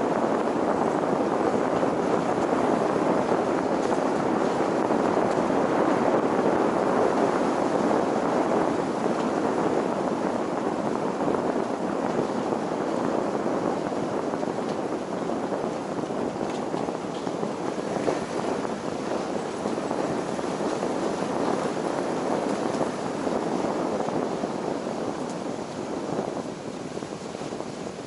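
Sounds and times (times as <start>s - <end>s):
road and tyre noise: 0.0s - 28.0s
wind: 0.0s - 28.0s.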